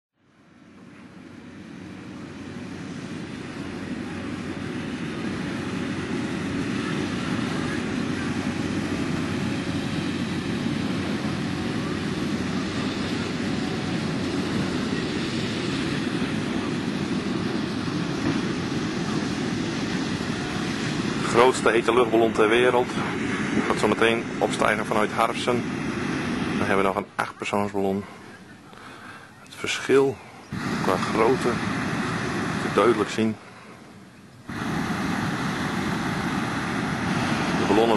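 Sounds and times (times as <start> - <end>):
inflator fans rumbling: 0.2 - 37.9.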